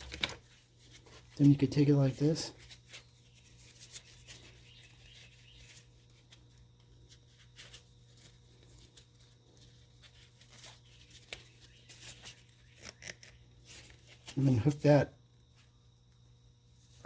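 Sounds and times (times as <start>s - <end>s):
hands clicking and rustling rubber: 0.0s - 14.8s.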